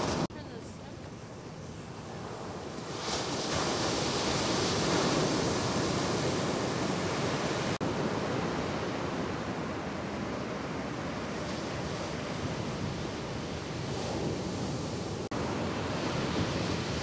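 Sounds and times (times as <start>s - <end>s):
waves crashing: 0.0s - 17.0s.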